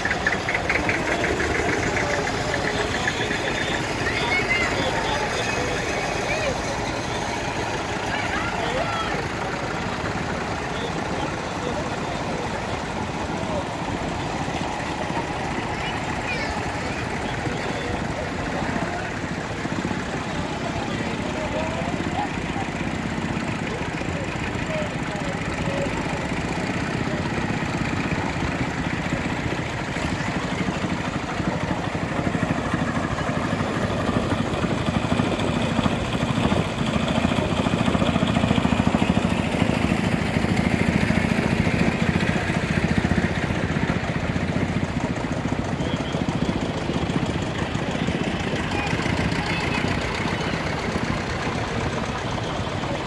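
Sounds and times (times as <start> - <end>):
tractor engines running: 0.0 - 53.0.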